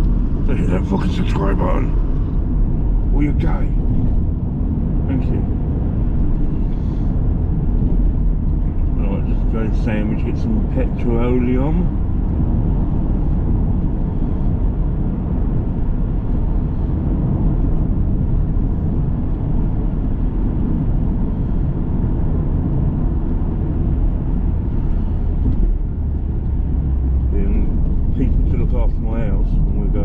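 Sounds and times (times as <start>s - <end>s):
car engine and tyre noise: 0.0s - 30.0s.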